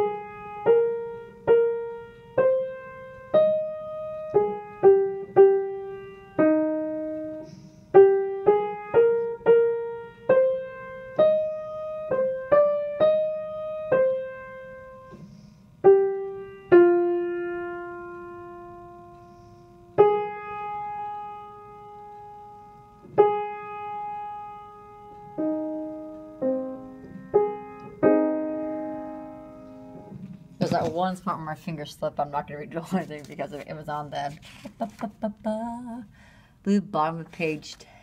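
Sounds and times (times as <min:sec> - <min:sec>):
piano melody: 0:00.0 - 0:32.9.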